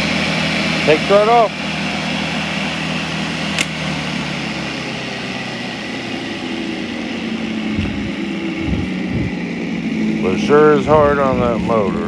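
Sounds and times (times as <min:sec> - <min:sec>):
electric lawn mower running: 0:00.0 - 0:12.0.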